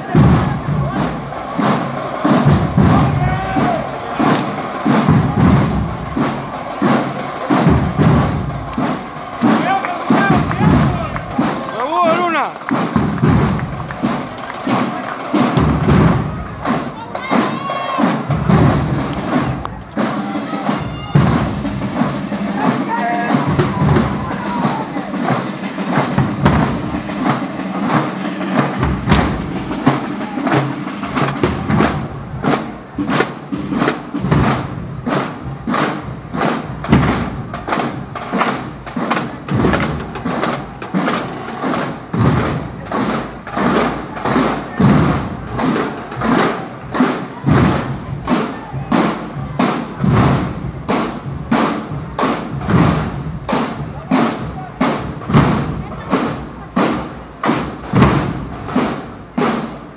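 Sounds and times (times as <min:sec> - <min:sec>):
drum line marching cadence: 0:00.0 - 0:59.9.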